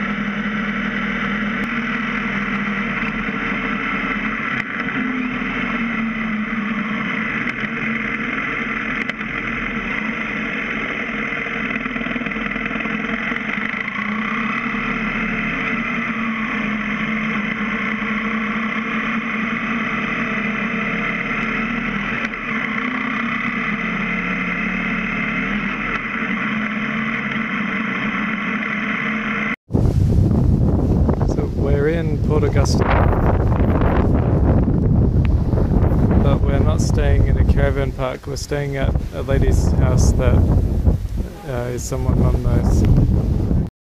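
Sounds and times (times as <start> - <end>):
motorcycle engine drone: 0.0 - 43.7
road and wind noise: 0.0 - 43.7.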